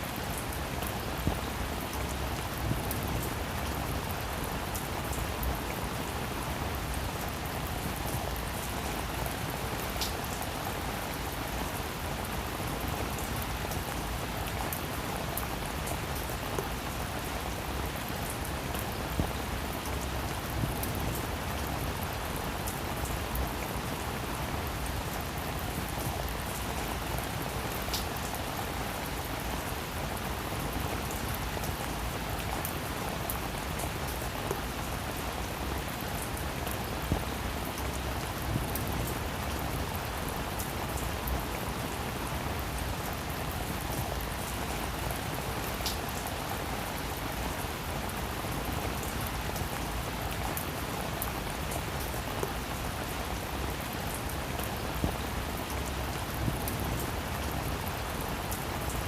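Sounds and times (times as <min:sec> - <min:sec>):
rain falling on a roof: 0:00.0 - 0:59.0.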